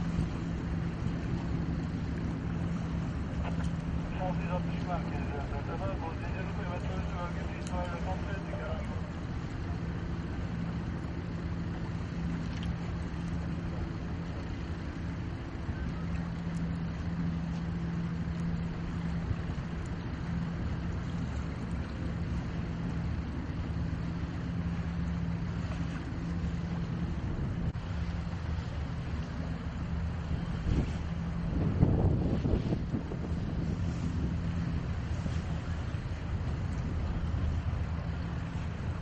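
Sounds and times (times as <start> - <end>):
boat engine drone: 0.0 - 39.0
choppy water: 0.0 - 39.0
wind: 0.0 - 39.0.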